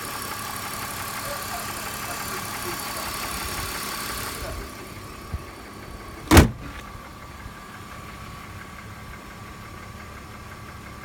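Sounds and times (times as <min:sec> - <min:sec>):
car engine idling with knock: 0:00.0 - 0:11.0.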